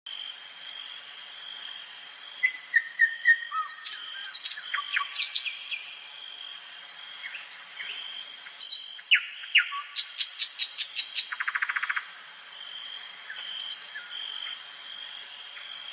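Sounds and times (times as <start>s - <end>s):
songbirds chirping and singing: 1.6s - 15.9s.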